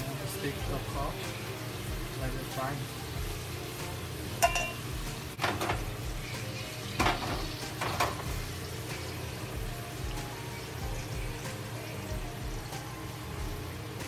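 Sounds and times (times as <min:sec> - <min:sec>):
oil crackling: 0:00.0 - 0:14.0
potatoes sizzling in hot oil: 0:00.0 - 0:14.0.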